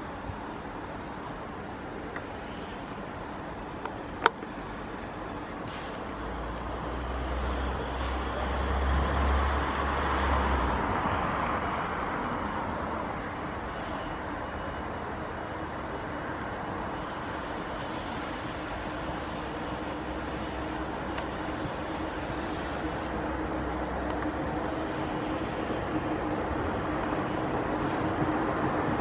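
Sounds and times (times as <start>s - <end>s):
faint high-pitched whines: 0.0s - 10.9s, 13.4s - 28.6s
train passing rumble: 0.0s - 29.0s.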